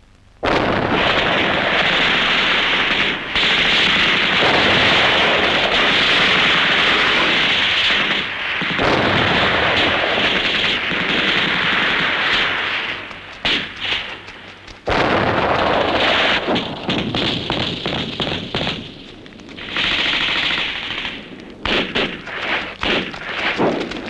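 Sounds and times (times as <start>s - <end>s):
explosion: 0.4s - 24.0s
heavy gunfire: 0.4s - 24.0s.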